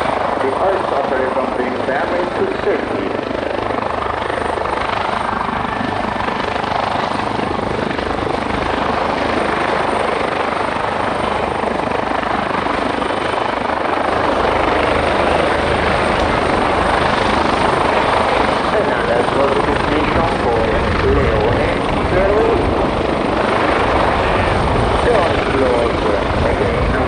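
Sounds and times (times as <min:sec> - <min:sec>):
helicopter rotor and turbine: 0:00.0 - 0:27.0.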